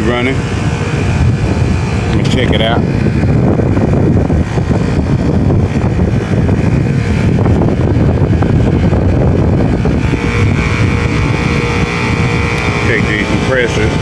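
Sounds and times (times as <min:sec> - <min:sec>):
air conditioning unit running: 0:00.0 - 0:14.0
steady tones: 0:00.0 - 0:14.0
thin high whine: 0:00.0 - 0:14.0.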